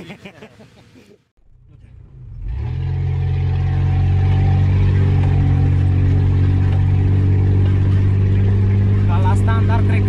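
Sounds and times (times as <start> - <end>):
off-road vehicle engine droning: 1.4 - 10.0.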